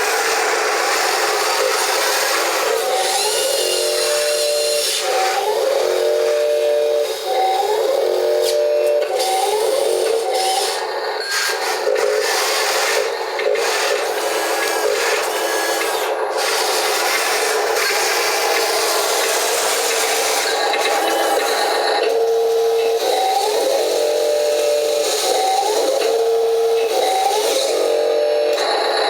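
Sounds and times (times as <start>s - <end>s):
wheel loader running: 0.0s - 29.0s.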